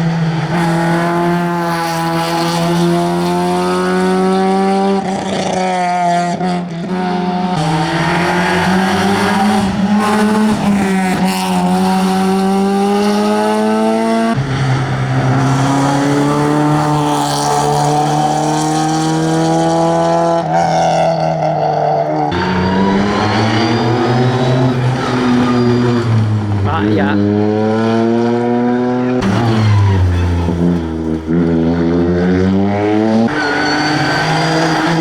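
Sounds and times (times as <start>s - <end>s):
rally car engine at full throttle: 0.0s - 35.0s.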